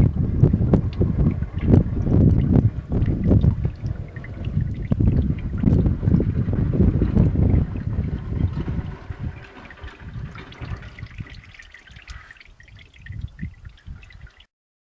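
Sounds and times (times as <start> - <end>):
oil pouring in a trickling stream: 0.0 - 14.5.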